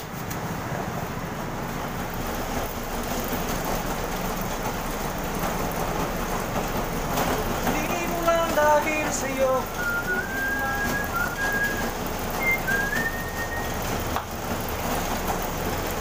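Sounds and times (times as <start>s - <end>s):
dough roller machine running: 0.0s - 16.0s.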